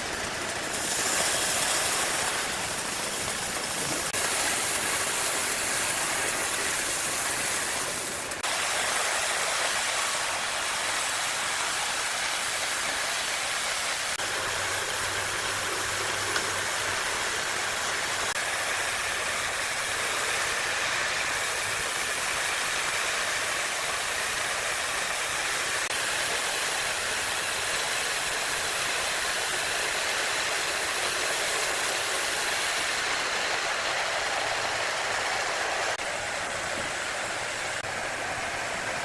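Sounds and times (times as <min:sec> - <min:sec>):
sawmill saw cutting timber: 0:00.0 - 0:39.0.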